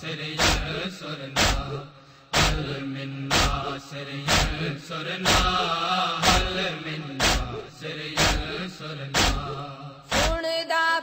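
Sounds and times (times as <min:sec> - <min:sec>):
men chanting: 0:00.0 - 0:10.4
crowd beating chests in unison: 0:00.4 - 0:10.4.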